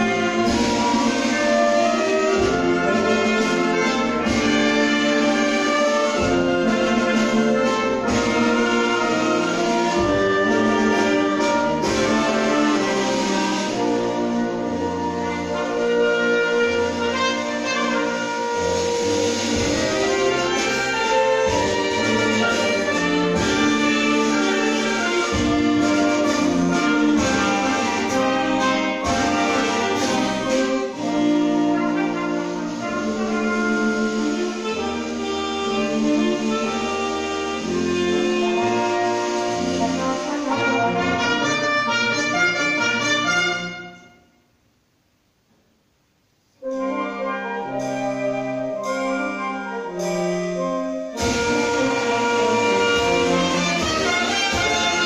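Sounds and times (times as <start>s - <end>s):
wind band playing: 0.0s - 44.5s, 46.5s - 55.0s.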